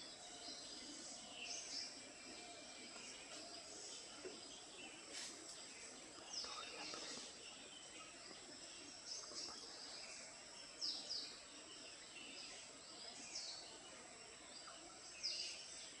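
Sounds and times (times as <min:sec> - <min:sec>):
bird calls: 0:00.0 - 0:13.6
insects humming: 0:00.0 - 0:15.9.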